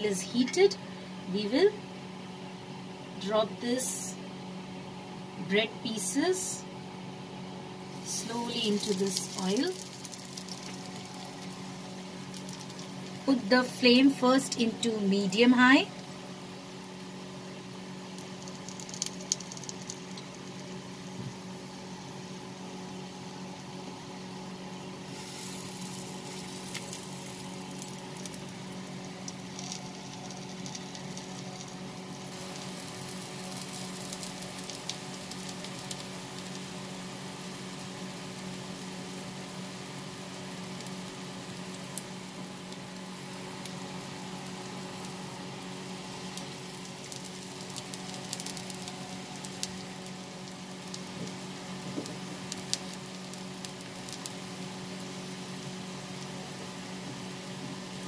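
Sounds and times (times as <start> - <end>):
steady low hum: 0.0 - 58.0
bread frying in oil: 6.0 - 58.0.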